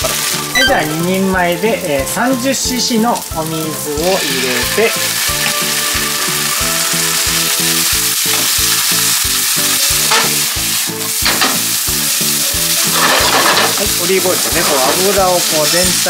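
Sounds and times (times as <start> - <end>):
noodles sizzling in a frying pan: 0.0 - 16.0
water spitting in hot pan: 0.0 - 16.0.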